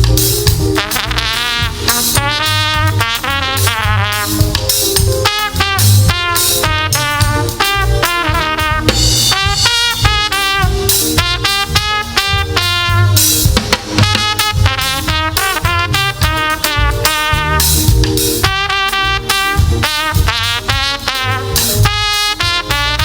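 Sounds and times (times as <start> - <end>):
drum kit beat with cymbals: 0.0 - 23.0
gospel band playing: 0.0 - 23.0
horns playing short phrases: 0.8 - 4.6, 5.2 - 23.0.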